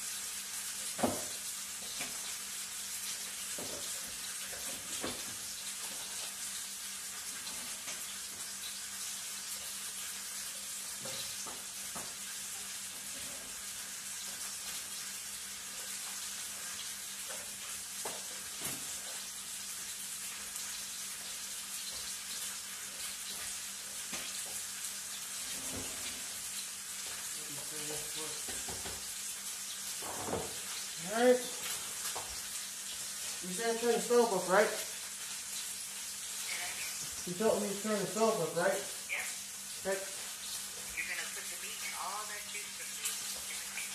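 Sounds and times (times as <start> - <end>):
vegetables sizzling in a pot: 0.0 - 43.9.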